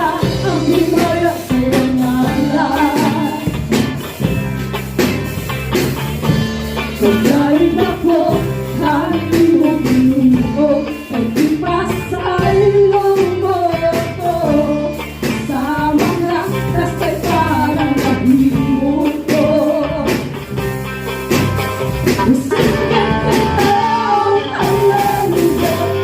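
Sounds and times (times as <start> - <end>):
person singing: 0.0 - 3.6, 7.0 - 20.4, 22.1 - 26.0
drum kit beat: 0.0 - 26.0
guitar: 0.0 - 26.0
worship band music: 0.0 - 26.0.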